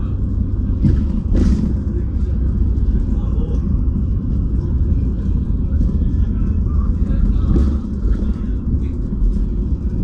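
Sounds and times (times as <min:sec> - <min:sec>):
bus engine and road rumble: 0:00.0 - 0:10.0
faint voices: 0:00.0 - 0:10.0.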